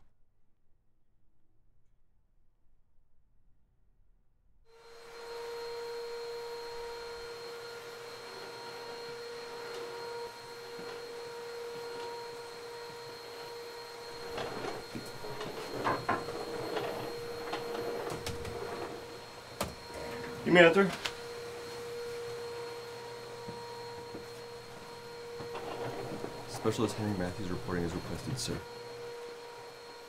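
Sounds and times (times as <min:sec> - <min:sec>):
steady tonal hum: 0:04.8 - 0:29.9.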